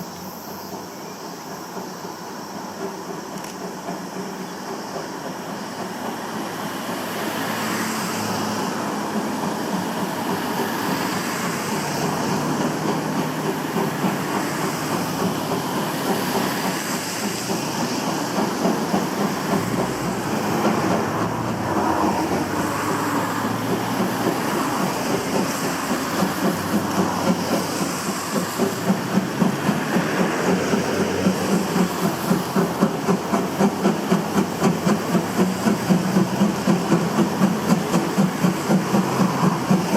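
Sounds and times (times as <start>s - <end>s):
locomotive pulsing beat: 0.0s - 39.9s
steam locomotive rumbling: 0.0s - 39.9s.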